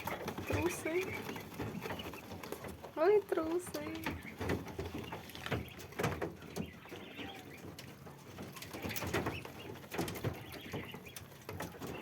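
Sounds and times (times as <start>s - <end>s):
ducklings peeping softly: 0.0s - 12.0s.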